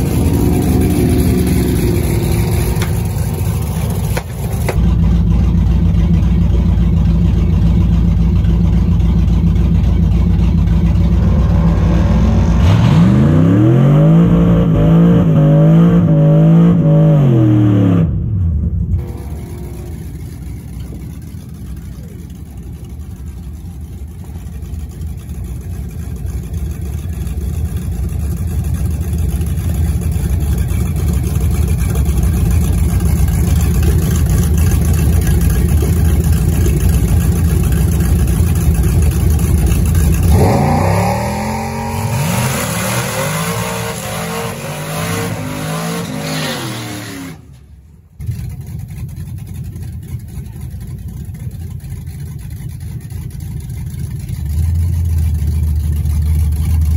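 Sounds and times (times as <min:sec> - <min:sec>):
drag racing car engines revving: 0:00.0 - 0:56.9.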